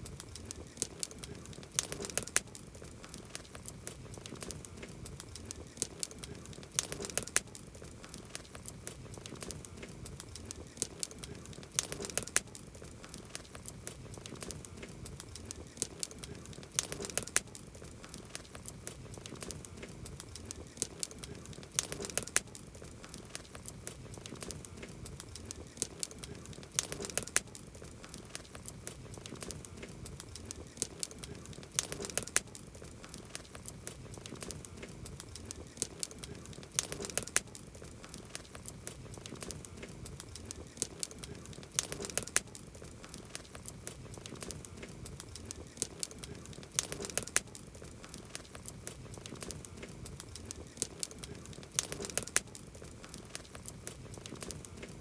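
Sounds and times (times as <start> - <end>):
campfire crackling and popping: 0.0 - 55.0
fire hissing softly: 0.0 - 55.0.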